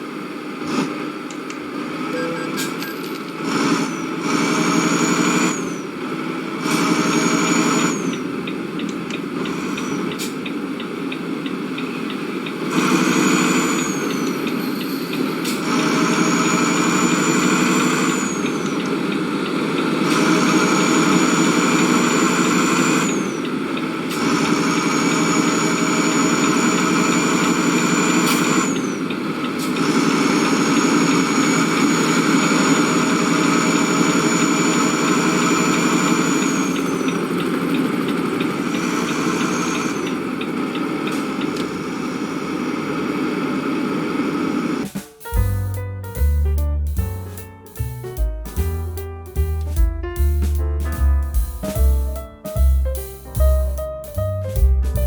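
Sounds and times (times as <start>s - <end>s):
vehicle engine running: 1.6s - 55.0s.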